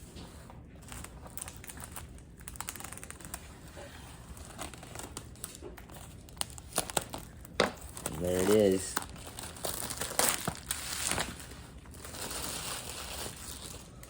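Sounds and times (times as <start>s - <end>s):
plastic shrink-wrap tearing and crinkling: 0.6s - 14.0s.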